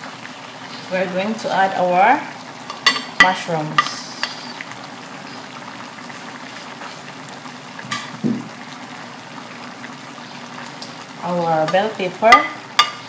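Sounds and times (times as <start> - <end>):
stew simmering and sizzling: 0.0 - 13.0.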